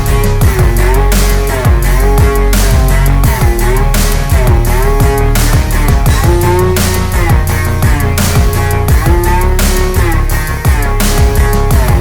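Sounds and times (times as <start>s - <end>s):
heavy rock instrumental: 0.0s - 12.0s.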